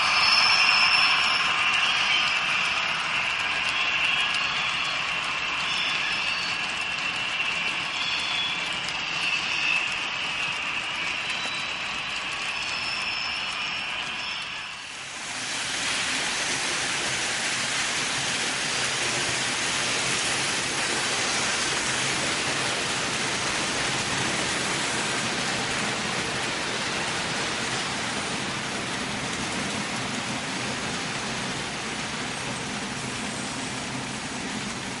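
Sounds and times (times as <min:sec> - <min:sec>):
model train wheels rattling on rails: 0:00.0 - 0:35.0.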